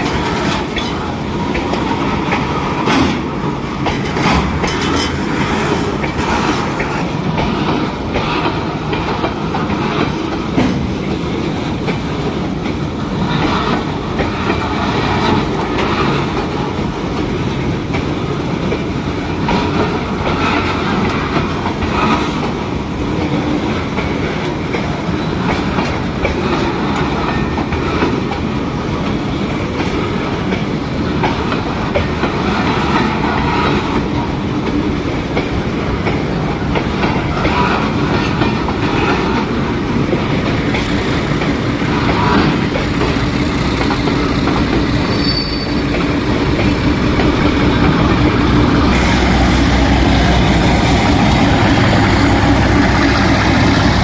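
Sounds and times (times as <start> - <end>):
train wheels rolling on rails: 0.0 - 54.0
wheels clanking over rail joints: 0.0 - 54.0.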